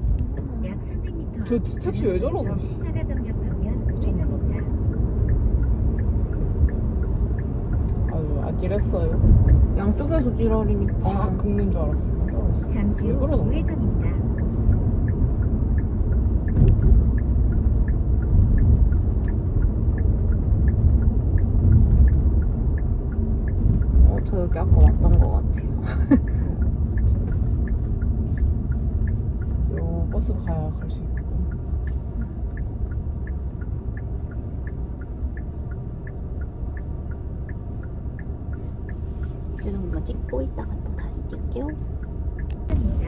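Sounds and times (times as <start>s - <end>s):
car road and engine rumble: 0.0s - 43.0s
turn signal ticking: 0.0s - 43.0s.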